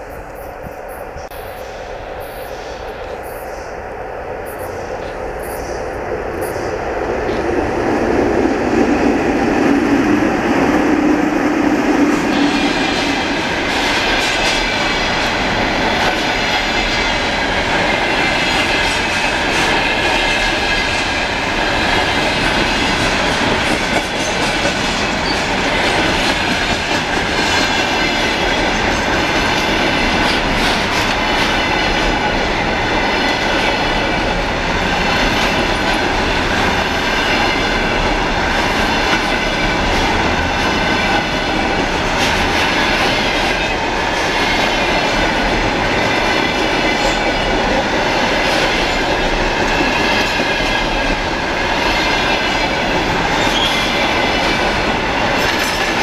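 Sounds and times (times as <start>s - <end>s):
locomotive humming: 0.0s - 56.0s.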